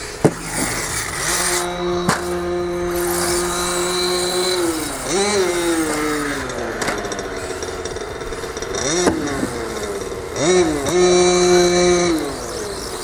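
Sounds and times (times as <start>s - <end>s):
electric rc car motor whining: 0.0s - 13.0s.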